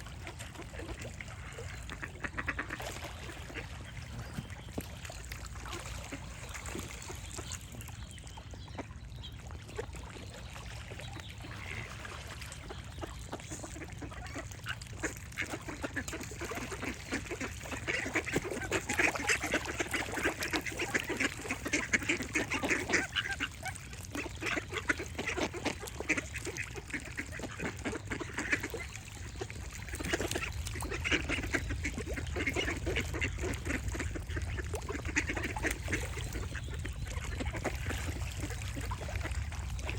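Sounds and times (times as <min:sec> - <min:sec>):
ducks quacking: 0:00.1 - 0:04.5, 0:05.6 - 0:07.8, 0:11.4 - 0:39.9.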